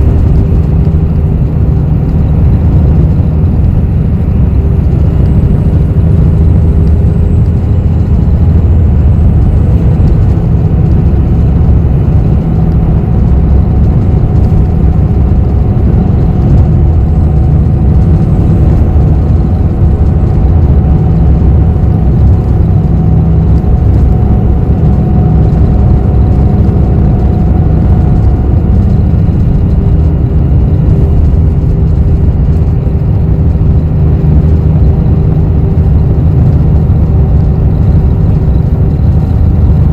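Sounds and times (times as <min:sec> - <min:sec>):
bus engine and road rumble: 0:00.0 - 0:39.9
faint whine: 0:00.0 - 0:39.9.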